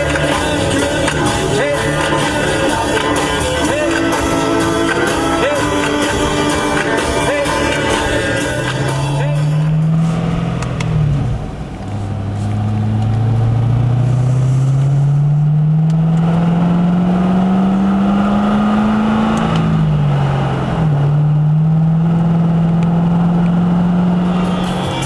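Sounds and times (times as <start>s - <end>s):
car engine from inside cabin: 0.0s - 24.7s.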